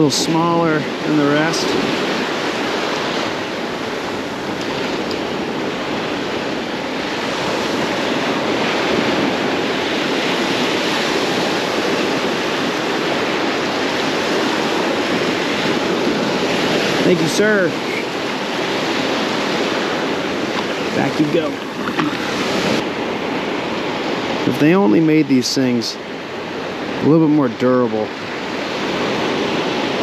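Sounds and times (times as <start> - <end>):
ocean surf washing ashore: 0.0 - 30.0.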